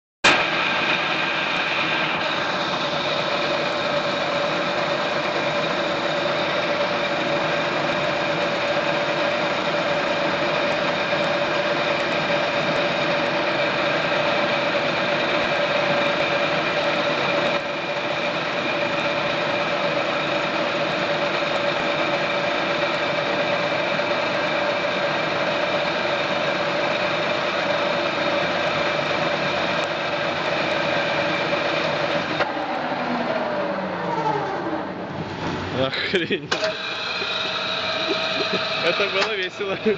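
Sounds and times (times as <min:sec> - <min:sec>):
milling machine whining: 0:00.2 - 0:39.9.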